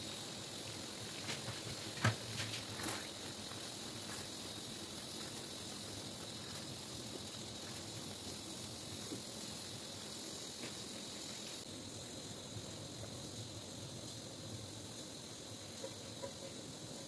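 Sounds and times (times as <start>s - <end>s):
sauce simmering with a hiss: 0.0s - 17.0s.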